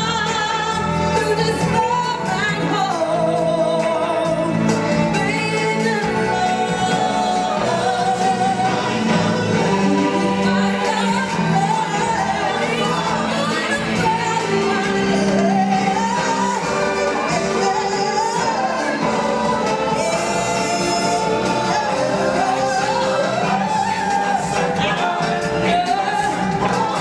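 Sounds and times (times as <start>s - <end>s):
choir singing: 5.2s - 27.0s.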